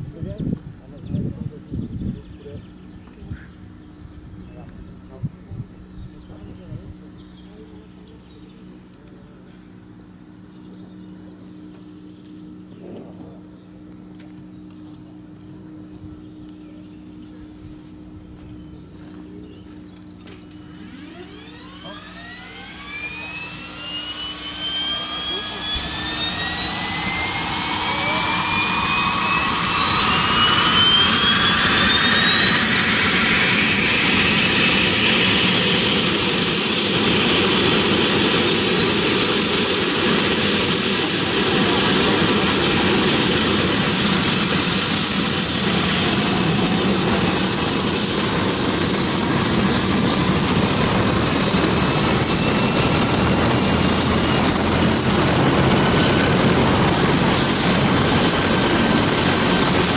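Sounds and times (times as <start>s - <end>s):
helicopter rotor rush: 0.0s - 59.9s
helicopter turbine whine rising: 0.0s - 59.9s.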